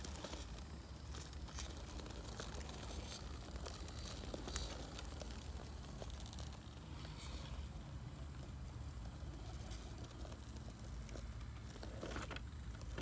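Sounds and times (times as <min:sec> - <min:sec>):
small clicks and ticks: 0:00.0 - 0:13.0
tyres crunching on grit: 0:00.0 - 0:13.0.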